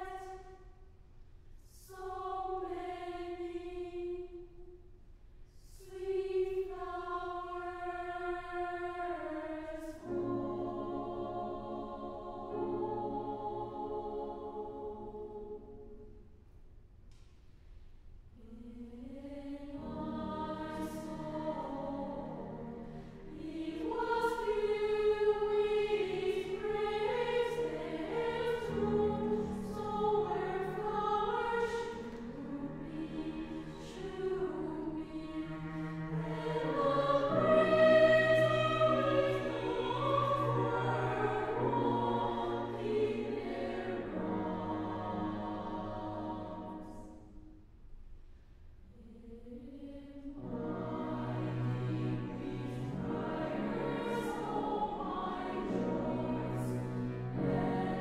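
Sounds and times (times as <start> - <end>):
women's choir singing: 0.0 - 0.6, 1.7 - 4.7, 5.6 - 16.2, 18.4 - 47.4, 48.9 - 58.0
cello: 5.6 - 16.0, 18.4 - 47.5, 48.9 - 58.0
piano: 5.8 - 16.5, 18.3 - 47.6, 50.4 - 58.0.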